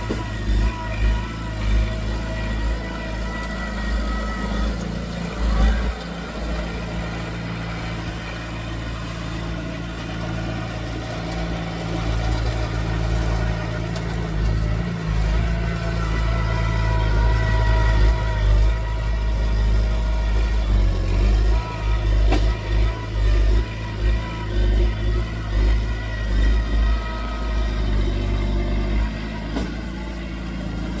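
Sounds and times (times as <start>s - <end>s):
earthmoving machine diesel engine: 0.0s - 31.0s.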